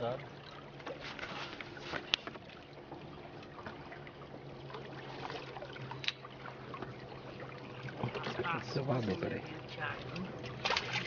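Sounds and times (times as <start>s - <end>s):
low steady hum: 0.0s - 11.0s
water lapping against boat hull: 0.0s - 11.0s.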